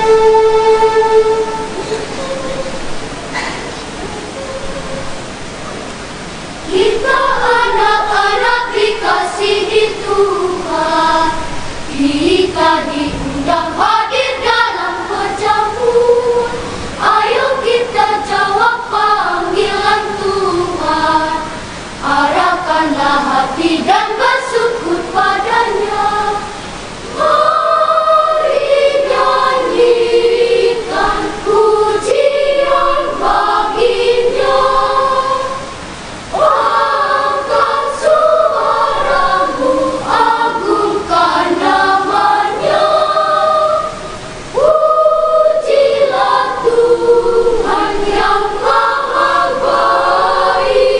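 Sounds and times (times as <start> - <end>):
children's choir singing: 0.0 - 50.9.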